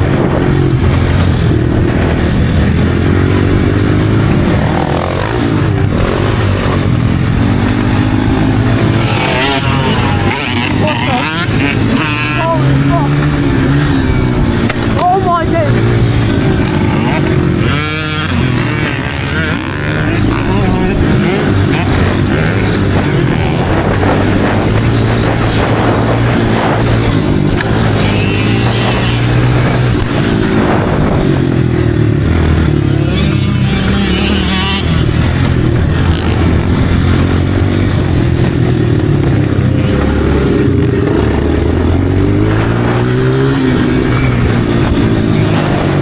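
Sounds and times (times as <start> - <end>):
dirt bike engine running hard: 0.0 - 46.0.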